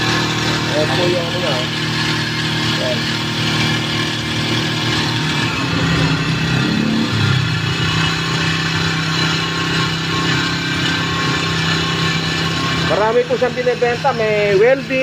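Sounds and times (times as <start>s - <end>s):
power sprayer engine running: 0.0s - 15.0s.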